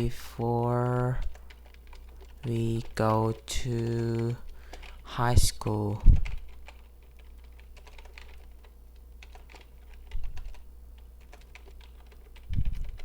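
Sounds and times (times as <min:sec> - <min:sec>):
computer keyboard key clicks: 0:00.8 - 0:13.0.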